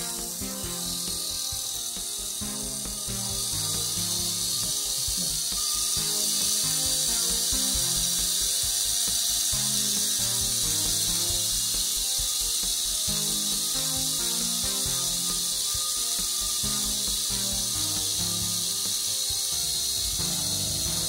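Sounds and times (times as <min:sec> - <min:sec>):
electric motor running with hiss: 0:00.0 - 0:21.0.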